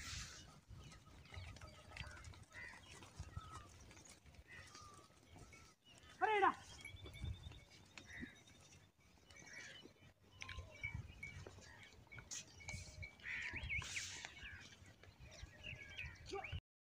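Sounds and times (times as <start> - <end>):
birds chirping and whistling: 0.0 - 16.6.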